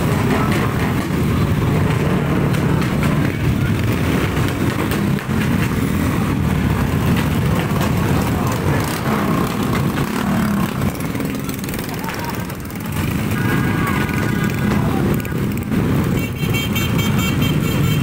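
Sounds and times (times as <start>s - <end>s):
motorcycles and scooters passing: 0.0s - 18.0s.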